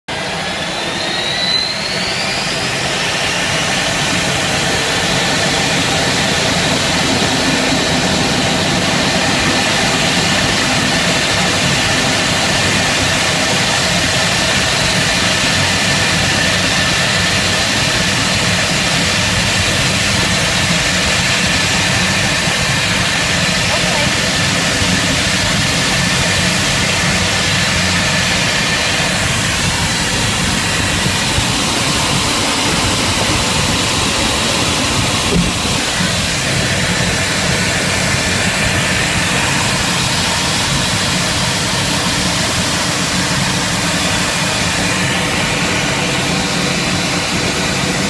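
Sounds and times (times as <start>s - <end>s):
jet engine roar and whine: 0.0s - 48.0s.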